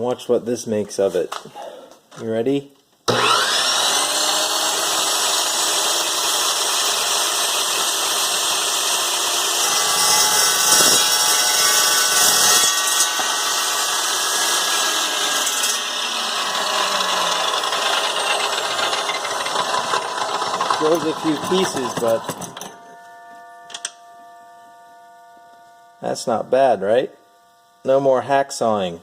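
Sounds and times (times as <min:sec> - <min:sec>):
circular saw cutting metal: 0:03.1 - 0:28.0.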